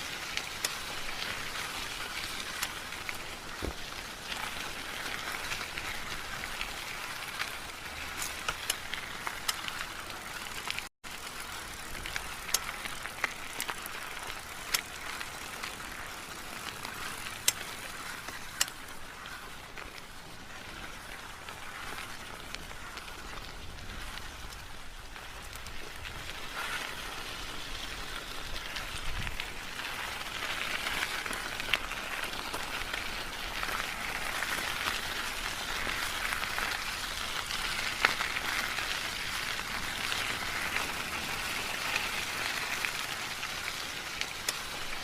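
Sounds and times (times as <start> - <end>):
bicycle tyres rolling: 0.0 - 45.0
small clicks and ticks: 0.0 - 45.0.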